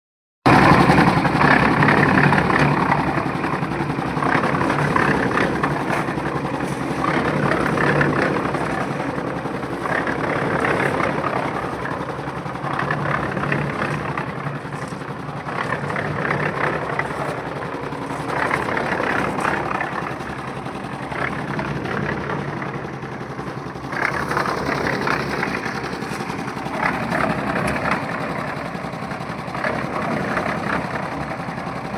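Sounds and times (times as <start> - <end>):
engine-driven machine running: 0.5 - 31.9.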